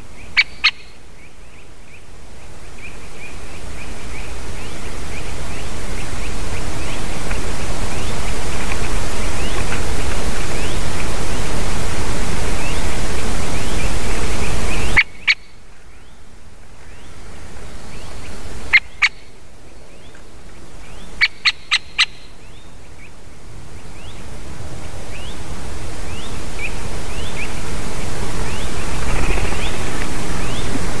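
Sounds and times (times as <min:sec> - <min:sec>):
small birds chirping: 0:00.0 - 0:11.6, 0:12.5 - 0:16.2, 0:16.8 - 0:31.0
wind hiss: 0:00.0 - 0:31.0.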